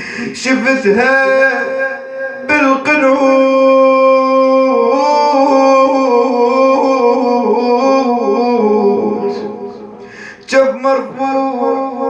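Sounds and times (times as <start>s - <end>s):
man singing a mournful lament: 0.0s - 12.0s.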